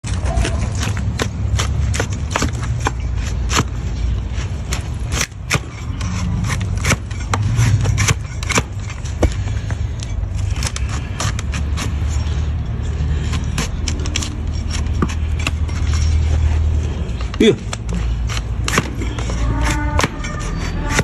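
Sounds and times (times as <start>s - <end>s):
knife cutting and scraping hoof: 0.0s - 21.0s.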